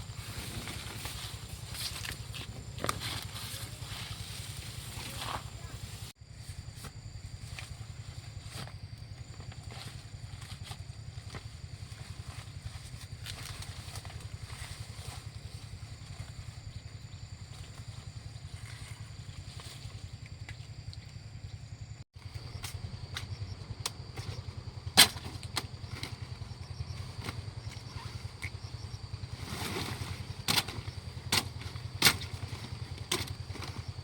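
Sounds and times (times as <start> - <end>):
small engine running: 0.0 - 6.2, 9.2 - 20.2, 22.2 - 34.0.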